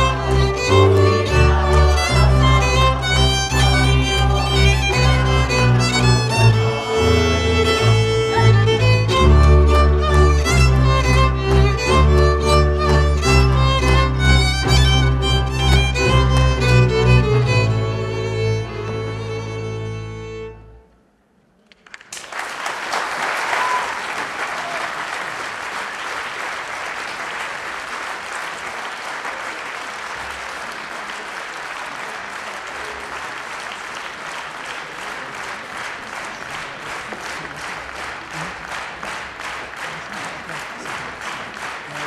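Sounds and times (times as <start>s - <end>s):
audience applauding: 0.0s - 17.8s, 21.6s - 42.0s
rhythmic clapping in unison: 0.0s - 18.3s, 21.7s - 42.0s.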